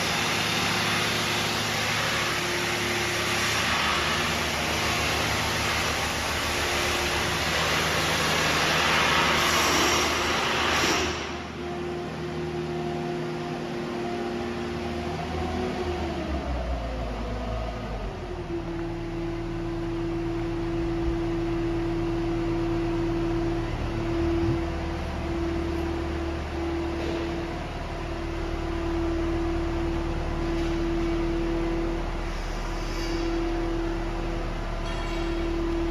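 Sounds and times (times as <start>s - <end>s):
machine hum: 0.0s - 35.9s.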